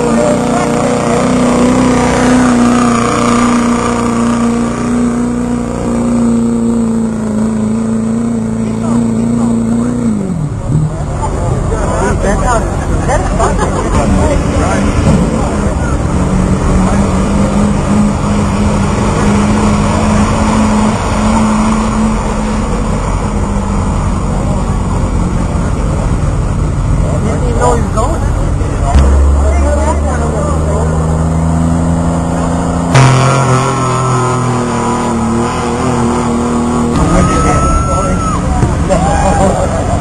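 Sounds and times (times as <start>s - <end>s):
truck engine revving high: 0.0s - 40.0s.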